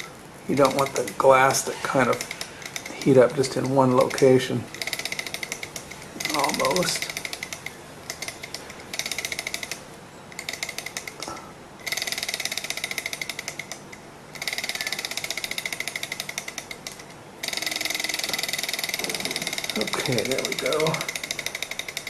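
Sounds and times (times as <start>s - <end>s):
stirling engine ticking: 0.0s - 22.0s.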